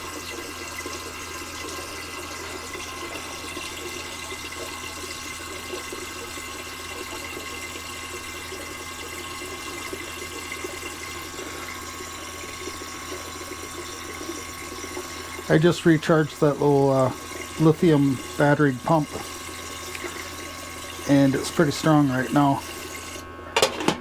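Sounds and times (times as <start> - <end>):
water pouring into a sink: 0.0 - 24.0
water pump whining: 0.0 - 24.0.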